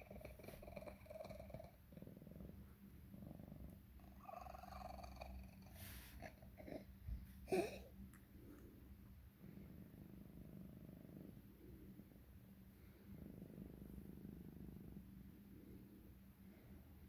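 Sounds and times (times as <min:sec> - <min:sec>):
cat purring with wheezy breathing: 0:00.0 - 0:17.0.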